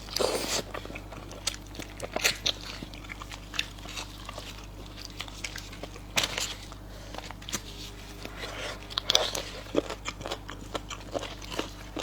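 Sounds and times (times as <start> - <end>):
person eating crunchy food: 0.0 - 12.0.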